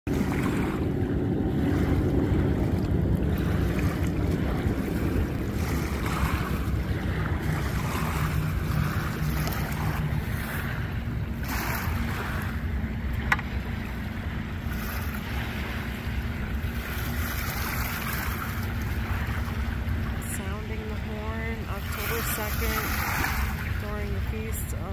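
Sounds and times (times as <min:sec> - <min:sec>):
small waves lapping on shore: 0:00.1 - 0:24.9
wind buffeting microphone: 0:00.1 - 0:24.9.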